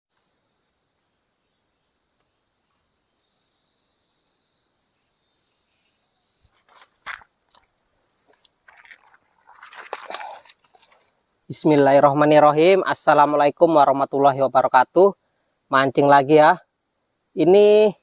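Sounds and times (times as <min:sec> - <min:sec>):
high-pitched insect drone: 0:00.1 - 0:18.0.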